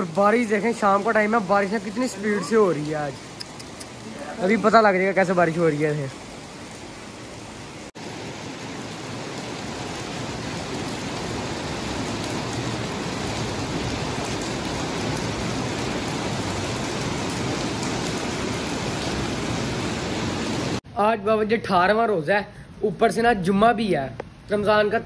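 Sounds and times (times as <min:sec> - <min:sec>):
rain falling on pavement and plants: 0:00.0 - 0:20.9, 0:22.9 - 0:25.0.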